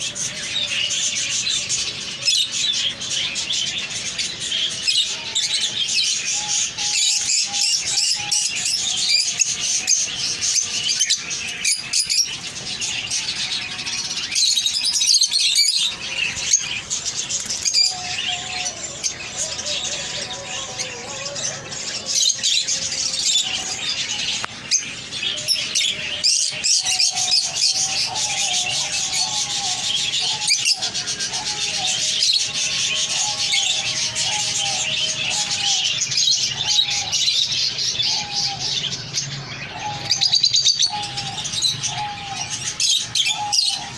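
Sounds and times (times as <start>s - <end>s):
birds chirping and twittering: 0.0s - 43.9s.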